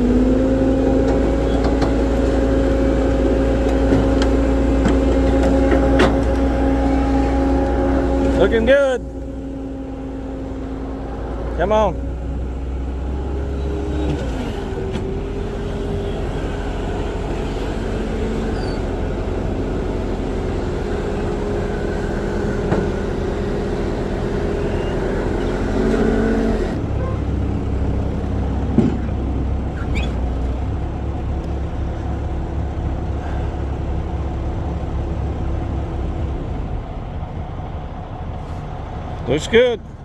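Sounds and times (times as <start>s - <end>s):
skid steer engine running: 0.0s - 40.0s.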